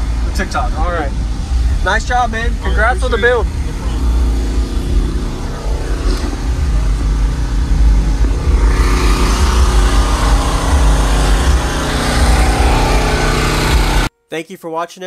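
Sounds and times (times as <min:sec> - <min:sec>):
bass-heavy song through subwoofers: 0:00.0 - 0:14.1.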